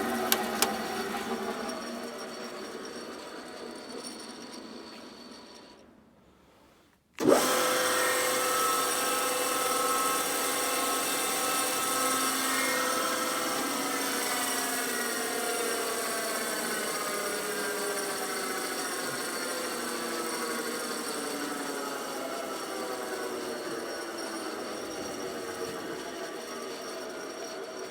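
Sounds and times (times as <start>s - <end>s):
spindle moulder whirring: 0.0s - 6.1s, 7.2s - 27.9s.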